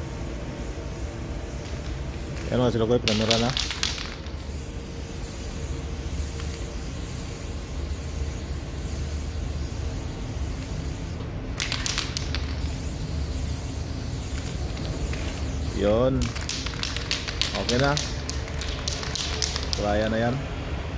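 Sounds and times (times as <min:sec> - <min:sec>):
spray paint can hissing: 0:00.2 - 0:20.1.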